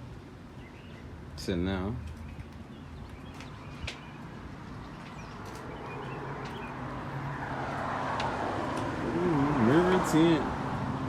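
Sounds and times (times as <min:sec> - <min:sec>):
road vehicle approaching: 0:02.1 - 0:11.0.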